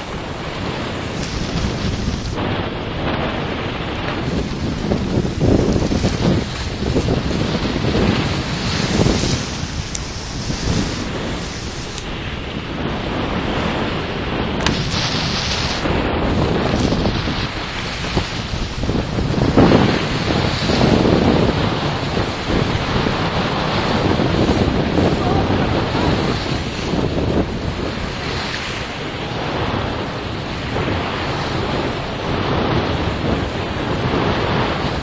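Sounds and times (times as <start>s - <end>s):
water rushing along hull: 0.0s - 35.0s
wind buffeting microphone: 0.0s - 35.0s.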